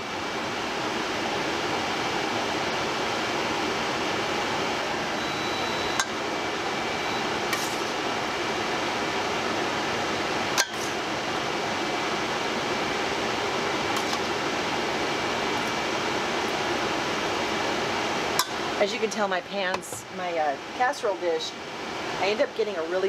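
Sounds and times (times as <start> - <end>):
fan-like rushing noise: 0.0 - 5.3, 6.2 - 19.4.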